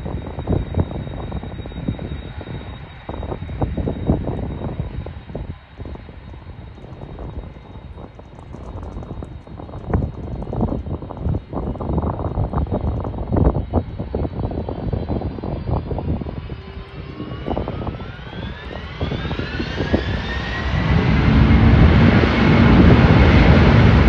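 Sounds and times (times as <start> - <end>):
jet engines whining: 0.0 - 24.0
wind buffeting microphone: 0.0 - 24.0.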